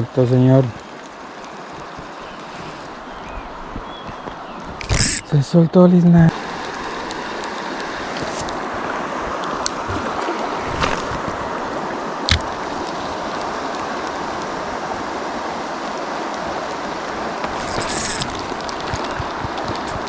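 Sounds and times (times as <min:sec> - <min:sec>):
river water rushing: 0:00.0 - 0:05.4, 0:06.3 - 0:20.0.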